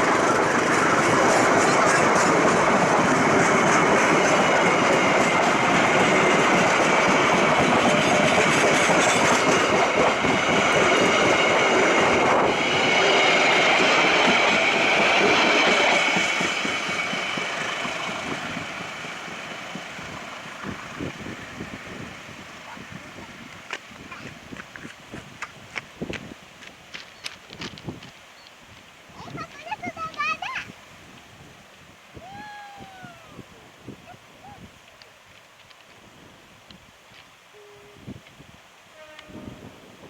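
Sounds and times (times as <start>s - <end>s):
train wheels whining on rails: 0.0s - 40.0s.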